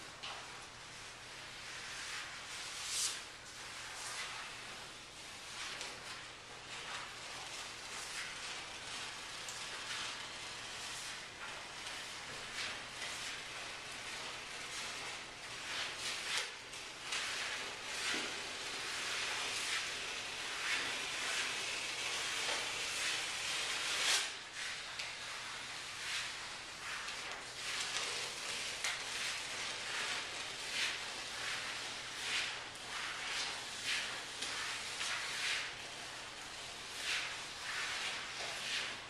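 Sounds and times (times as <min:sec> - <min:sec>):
steady hiss: 0:00.0 - 0:39.0
paper rustling and sliding: 0:00.3 - 0:39.0.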